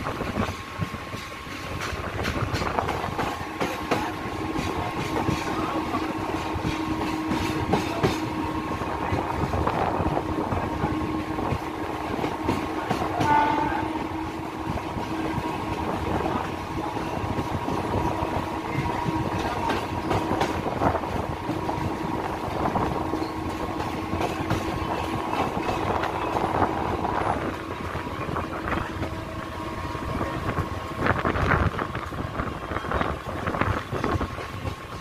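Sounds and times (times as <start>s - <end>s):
train wheels clattering over rails: 0.0s - 35.0s.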